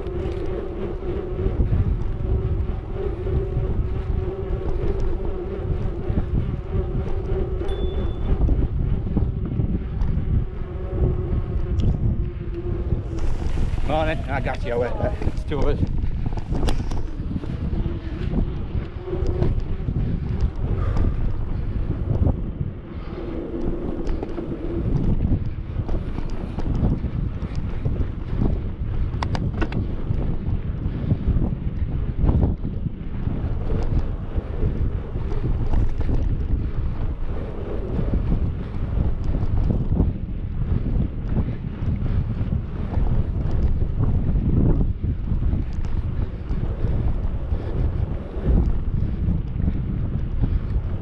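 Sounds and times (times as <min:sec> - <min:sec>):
bike tyres rolling on pavement: 0:00.0 - 0:51.0
wind buffeting microphone: 0:00.0 - 0:51.0.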